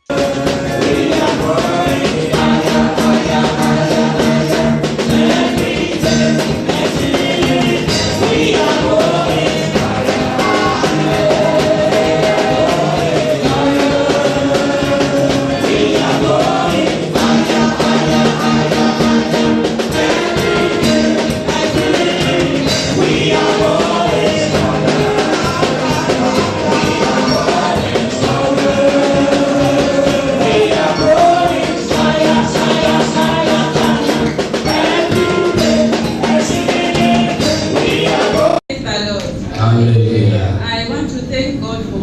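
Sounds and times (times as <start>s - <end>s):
upbeat band music with singing: 0.0s - 39.8s.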